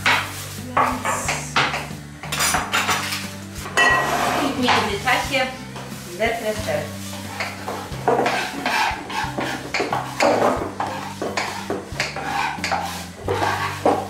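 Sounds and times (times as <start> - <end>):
utensils clattering on pots and dishes: 0.0 - 14.0.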